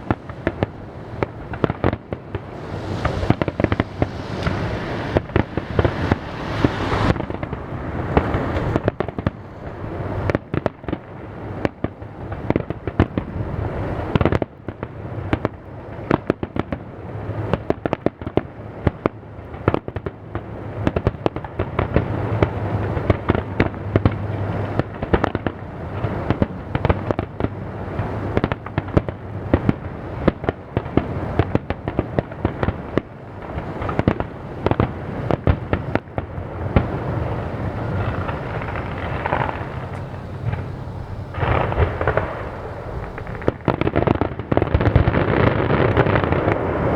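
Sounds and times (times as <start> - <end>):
fireworks bursting: 0.0 - 46.9
low rumble of fireworks reports: 0.0 - 46.9.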